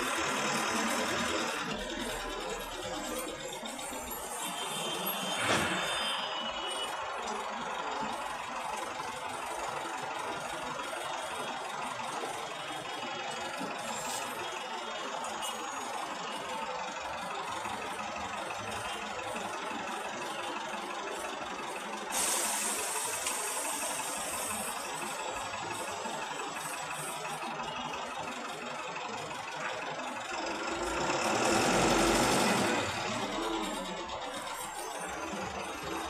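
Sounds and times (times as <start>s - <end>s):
vehicle engines idling: 0.0s - 36.0s.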